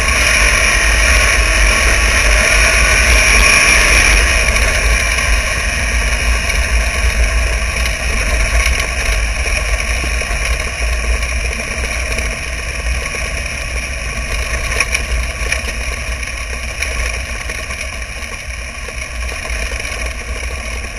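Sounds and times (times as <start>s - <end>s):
race car engine running: 0.0s - 20.9s
wind rumble on microphone: 0.0s - 20.9s.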